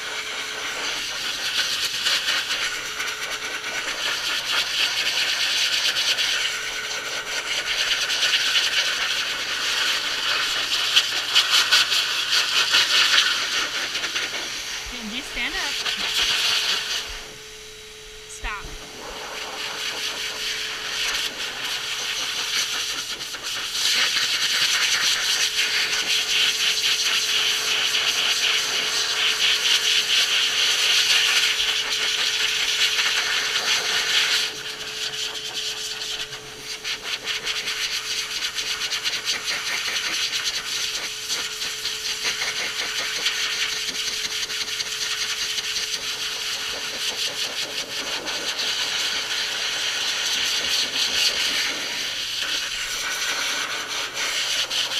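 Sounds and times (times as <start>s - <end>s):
pet dryer motor whine: 0.0s - 54.9s.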